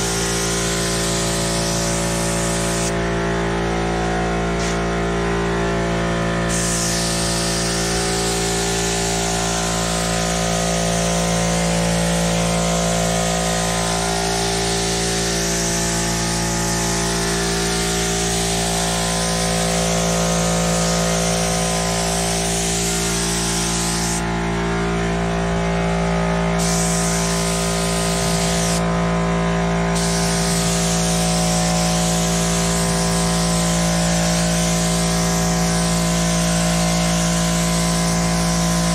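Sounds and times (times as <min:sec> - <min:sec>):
spray gun hissing: 0:00.0 - 0:03.0, 0:04.6 - 0:04.9, 0:06.4 - 0:24.3, 0:26.6 - 0:28.9, 0:29.9 - 0:38.9
steady motor hum: 0:00.0 - 0:38.9.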